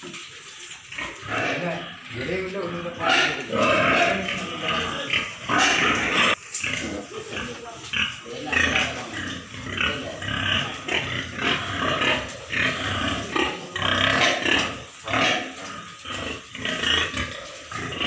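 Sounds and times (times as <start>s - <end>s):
pigs grunting: 0.0s - 18.0s.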